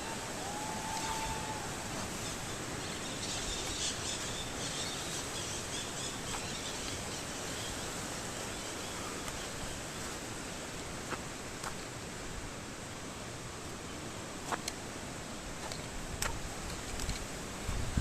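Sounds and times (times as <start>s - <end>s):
distant waterfall rushing: 0.0s - 18.0s.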